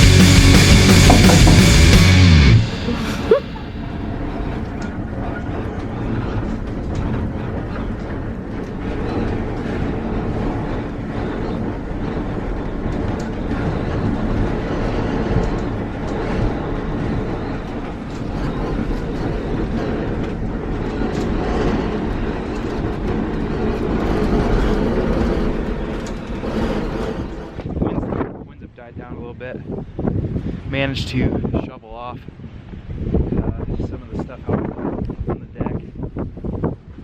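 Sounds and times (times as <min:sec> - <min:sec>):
strong wind buffeting microphone: 0:00.0 - 0:37.0.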